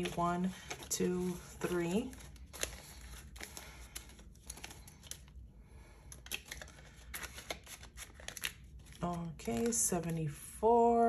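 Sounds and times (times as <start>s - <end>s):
paper bills rustling: 0.0s - 5.4s, 6.0s - 10.2s.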